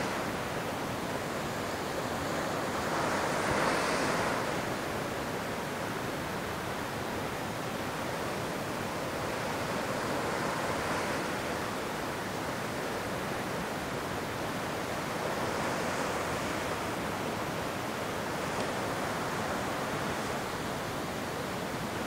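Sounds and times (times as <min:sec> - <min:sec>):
ocean waves washing on beach: 0:00.0 - 0:22.0.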